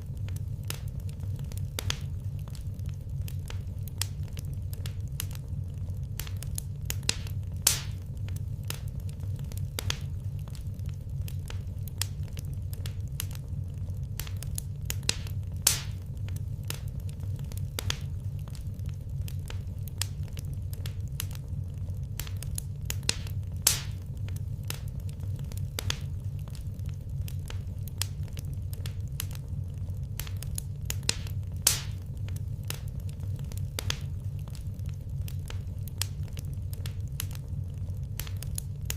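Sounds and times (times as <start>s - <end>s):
loud fire pops: 0.0s - 38.9s
low rumble: 0.0s - 38.9s
wood fire crackling: 0.0s - 38.9s.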